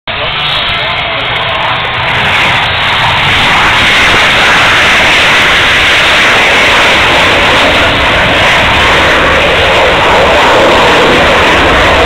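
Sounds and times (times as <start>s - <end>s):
fighter jet flying low past: 0.1s - 12.0s.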